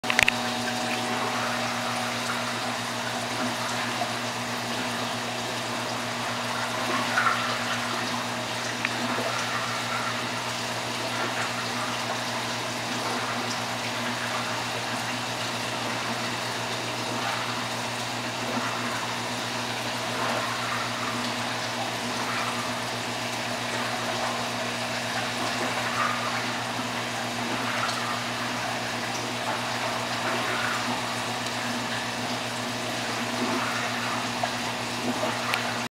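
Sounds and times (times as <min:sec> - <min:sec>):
aquarium filter water rushing: 0:00.0 - 0:35.9
low electrical hum: 0:00.0 - 0:35.9.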